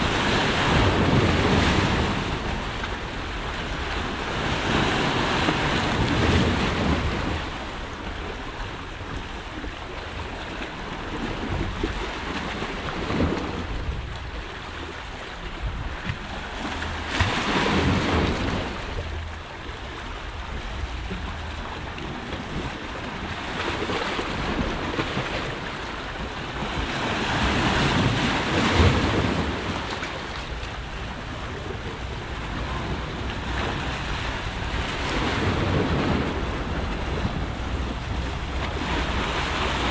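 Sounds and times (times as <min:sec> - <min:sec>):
sea waves washing against rocks: 0:00.0 - 0:39.9
wind on microphone: 0:00.0 - 0:39.9.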